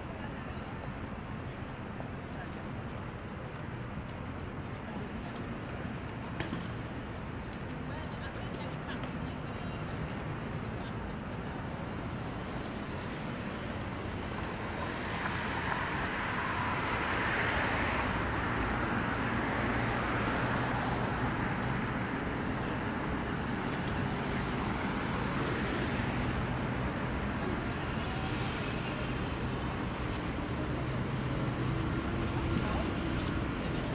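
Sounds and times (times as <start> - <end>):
city street traffic: 0.0 - 33.9.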